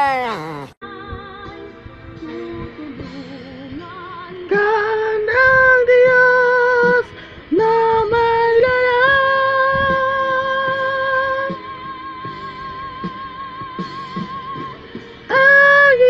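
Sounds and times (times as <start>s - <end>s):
high singing voice: 0.0s - 16.0s
quiet background music: 0.8s - 16.0s.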